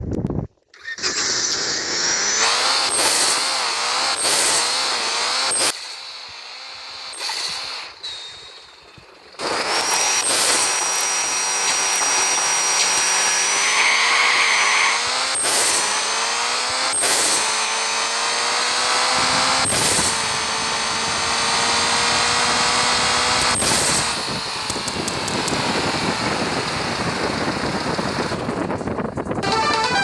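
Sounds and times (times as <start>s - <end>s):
car engine accelerating hard: 1.0s - 8.5s, 9.4s - 28.7s.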